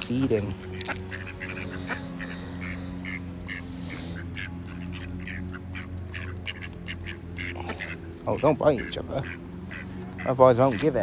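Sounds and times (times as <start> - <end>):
ducks quacking: 0.0 - 11.0
steady low hum: 0.0 - 11.0.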